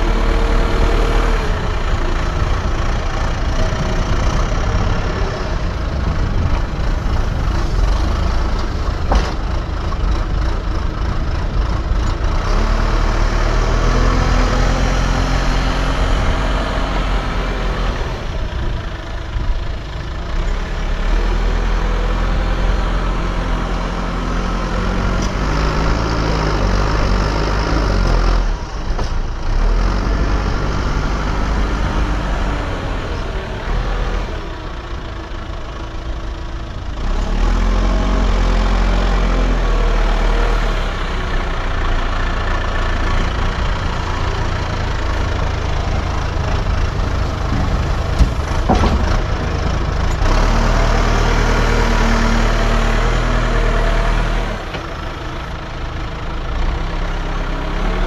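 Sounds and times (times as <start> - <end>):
diesel machinery engine working: 0.0 - 58.0.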